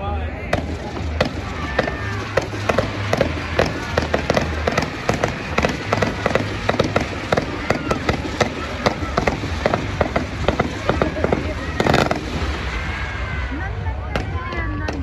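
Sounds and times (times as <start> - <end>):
fireworks bangs and crackles: 0.3 - 15.0.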